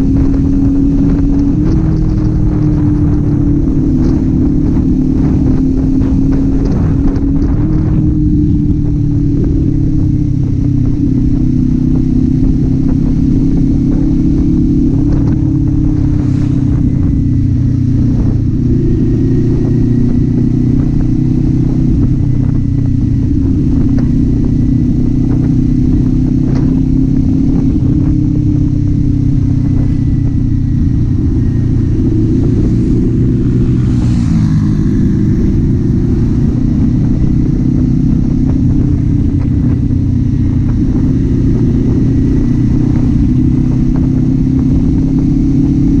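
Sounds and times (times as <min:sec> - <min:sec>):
motorcycle engine cruising: 0:00.0 - 0:46.0.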